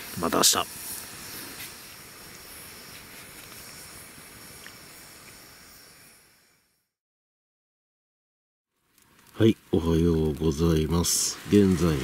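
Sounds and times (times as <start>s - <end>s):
campfire hissing and crackling: 0.0s - 7.0s, 8.7s - 12.0s.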